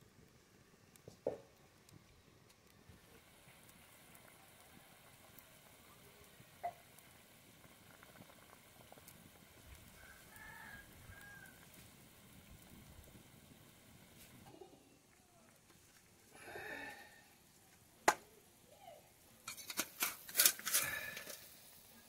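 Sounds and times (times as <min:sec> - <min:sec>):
curry bubbling at a boil: 0:00.0 - 0:22.0.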